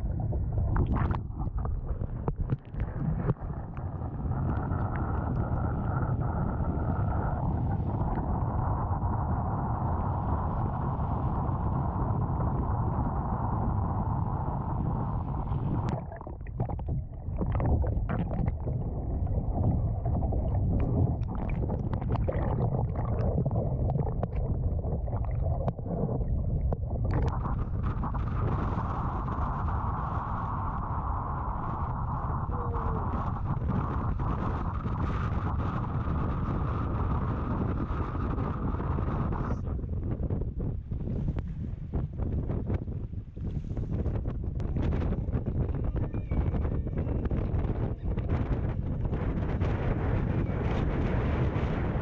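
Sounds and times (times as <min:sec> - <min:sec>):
choppy water washing against kayak: 0:00.0 - 0:52.0
underwater clicks and gurgles: 0:00.0 - 0:52.0
wind buffeting microphone: 0:00.0 - 0:52.0.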